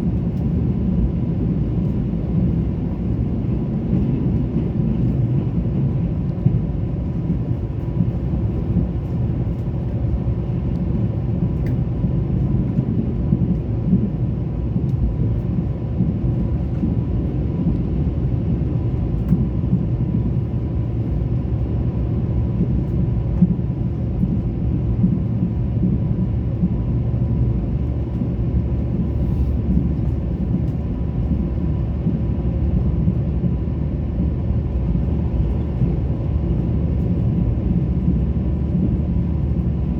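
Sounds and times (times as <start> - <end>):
passenger train rumbling: 0.0 - 39.9.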